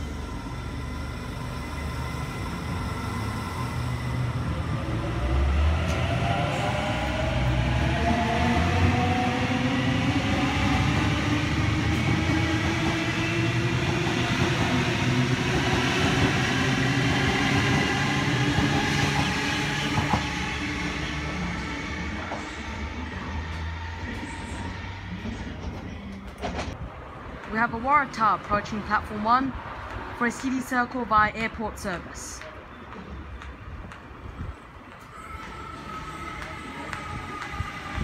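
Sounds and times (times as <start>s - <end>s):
train wheels rumbling on rails: 0.0s - 30.4s, 32.4s - 38.0s.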